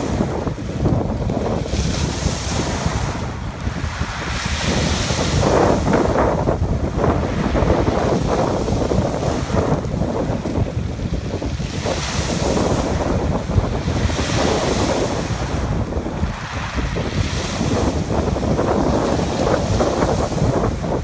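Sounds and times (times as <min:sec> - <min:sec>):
waves breaking on pebbles: 0:00.0 - 0:21.0
wind buffeting microphone: 0:00.0 - 0:21.0.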